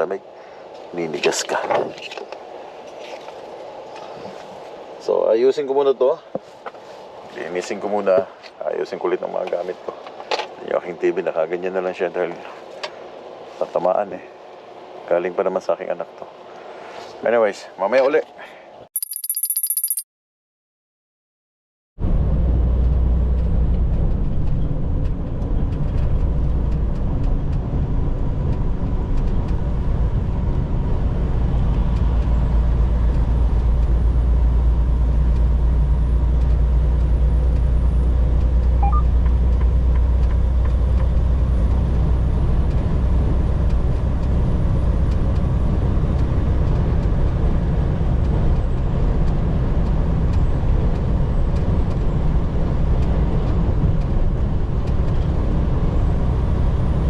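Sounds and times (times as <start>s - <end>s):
truck engine and road drone: 0.0s - 18.3s, 22.0s - 57.0s.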